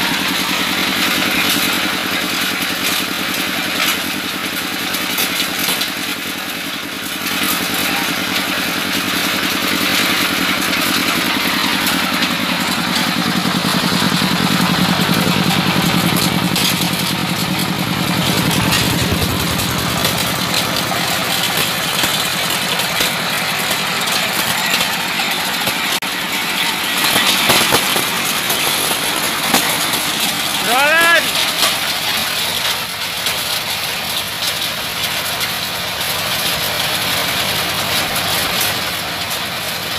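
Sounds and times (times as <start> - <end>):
diesel engine running grinder: 0.0 - 39.9.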